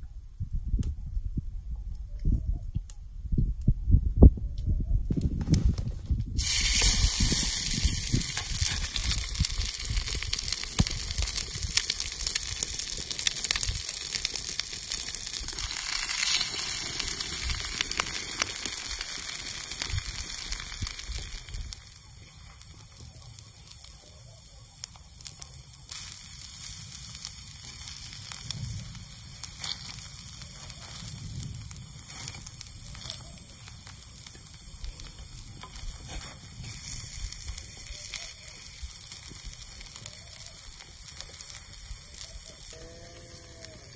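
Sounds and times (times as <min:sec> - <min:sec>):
butter sizzling and crackling: 0:06.4 - 0:43.9.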